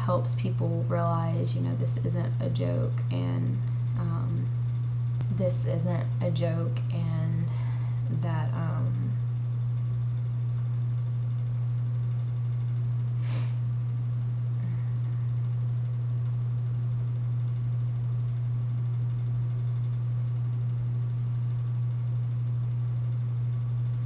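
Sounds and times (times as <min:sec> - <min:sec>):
low-pitched hum: 0:00.0 - 0:24.0.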